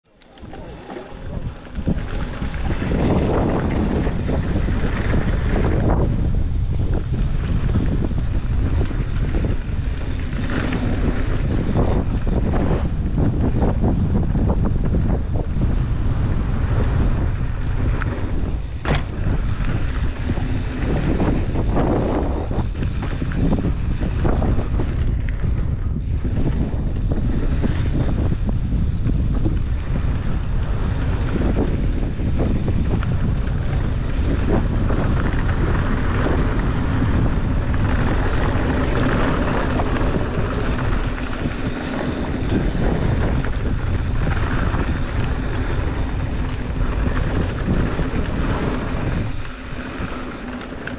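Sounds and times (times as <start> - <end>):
wind buffeting microphone: 0.0 - 50.9
tyres rumbling on dirt: 0.1 - 50.9
bike knocks and rattles: 0.2 - 50.9.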